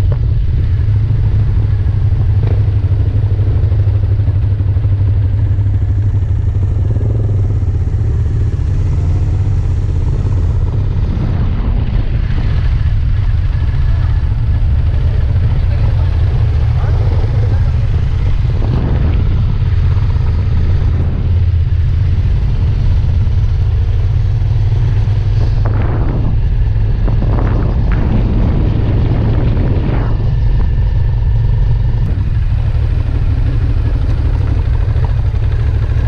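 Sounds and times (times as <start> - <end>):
motorcycle engine running: 0.0 - 36.0
wind rumble on microphone: 0.0 - 36.0.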